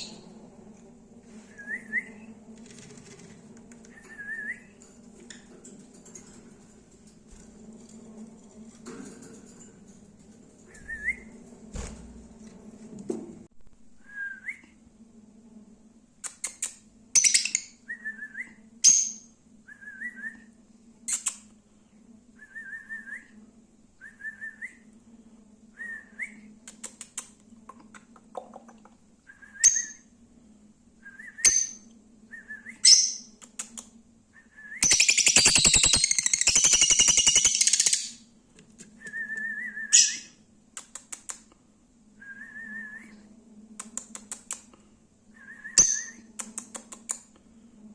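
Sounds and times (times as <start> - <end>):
steady low hum: 0.0 - 35.0, 37.4 - 47.9.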